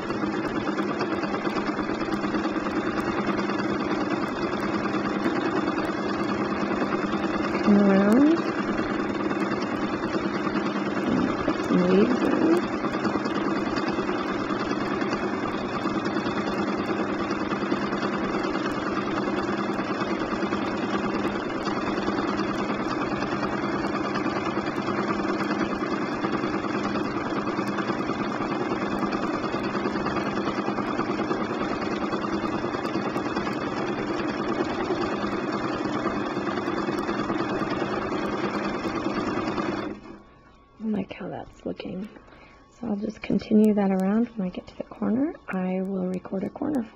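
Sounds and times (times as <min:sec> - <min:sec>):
sewing machine running: 0:00.0 - 0:41.0.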